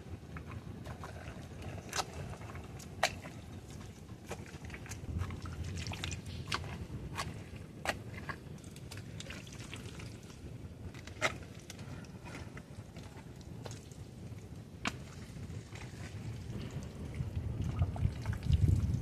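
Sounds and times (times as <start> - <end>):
wet mud squelching: 0.0 - 19.0.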